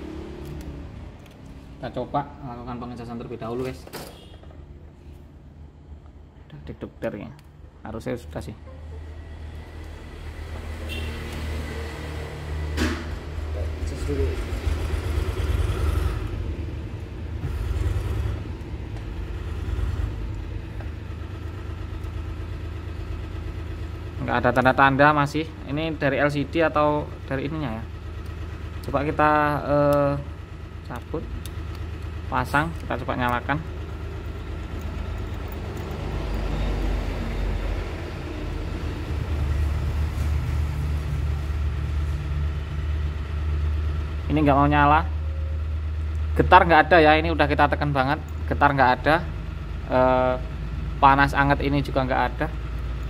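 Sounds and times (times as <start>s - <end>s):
engine rumbling: 0.0s - 53.0s.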